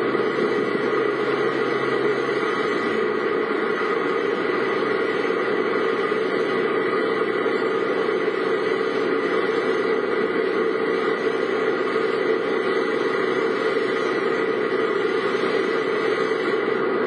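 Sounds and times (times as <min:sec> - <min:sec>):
car engine: 0:00.0 - 0:17.0.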